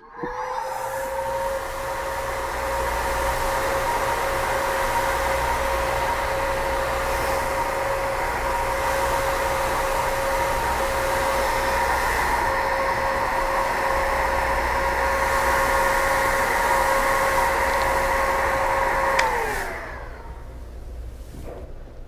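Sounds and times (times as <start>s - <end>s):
heat gun whirring: 0.0s - 21.3s.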